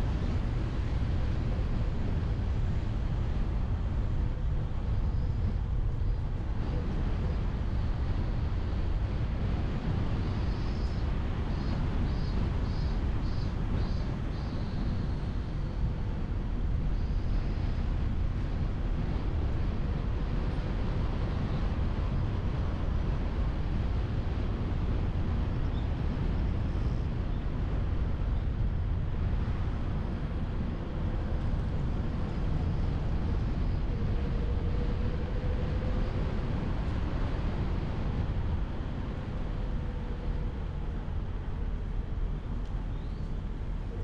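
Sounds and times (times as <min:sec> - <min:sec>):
faint steady whine: 0:00.0 - 0:44.0
road and wind noise: 0:00.0 - 0:44.0.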